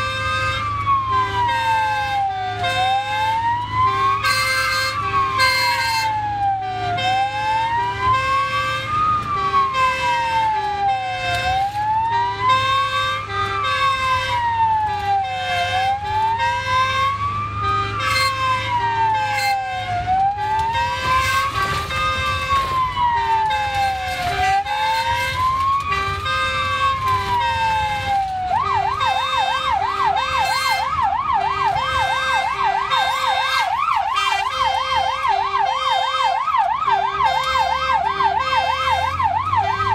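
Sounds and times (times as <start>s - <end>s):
ambulance siren wailing: 0.0s - 39.9s
vehicle engine rumble: 0.0s - 39.9s.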